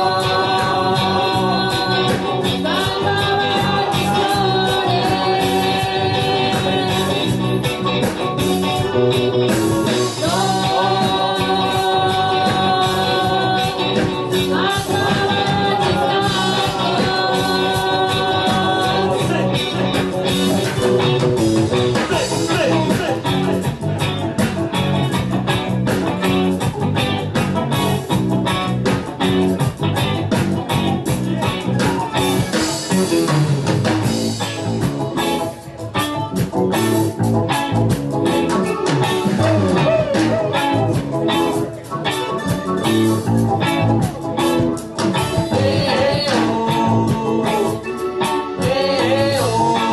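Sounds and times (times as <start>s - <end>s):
bass guitar: 0.0s - 49.9s
drum kit: 0.0s - 49.9s
electric guitar: 0.0s - 49.9s
keyboard: 0.0s - 49.9s.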